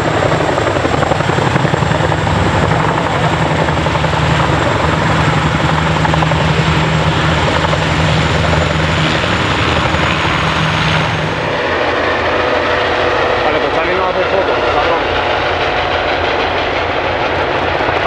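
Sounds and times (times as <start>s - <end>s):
helicopter rotors hovering: 0.0s - 18.0s
helicopters flying past: 0.0s - 18.0s
turbine whine: 0.0s - 18.0s.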